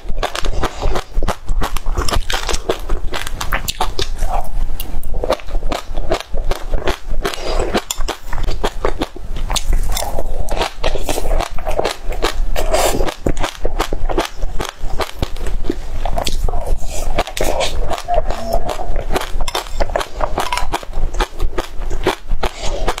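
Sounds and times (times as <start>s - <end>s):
person crunching and chewing: 0.0s - 23.0s.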